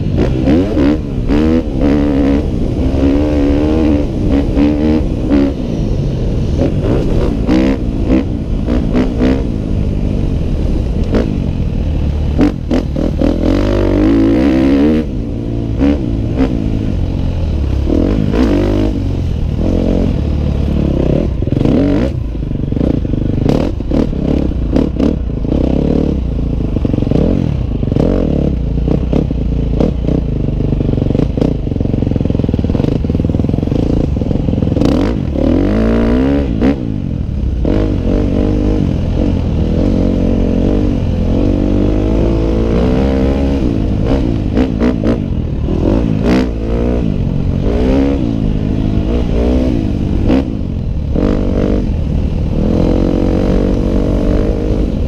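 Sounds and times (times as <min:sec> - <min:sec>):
dirt bike engine revving: 0:00.0 - 0:10.3, 0:12.0 - 0:55.0.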